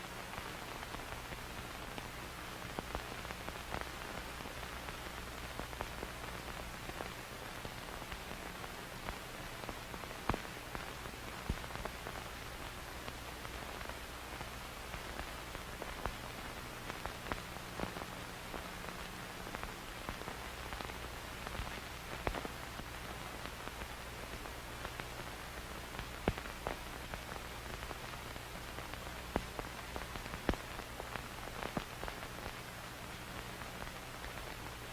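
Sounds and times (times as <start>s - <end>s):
film soundtrack hiss: 0.0s - 34.9s
film crackle pops and clicks: 0.3s - 34.9s.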